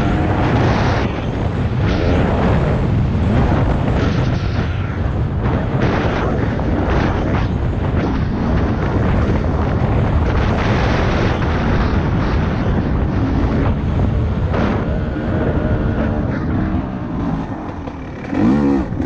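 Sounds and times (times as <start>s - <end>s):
dirt bike engine under throttle: 0.0s - 19.0s
wind buffeting microphone: 0.0s - 19.0s.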